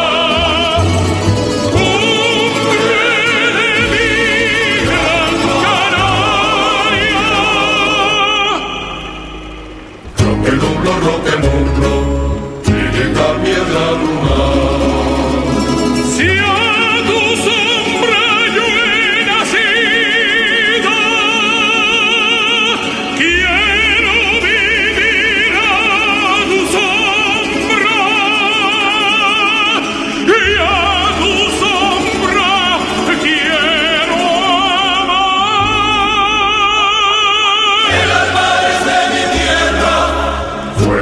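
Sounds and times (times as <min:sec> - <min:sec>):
operatic singing: 0:00.0 - 0:41.0.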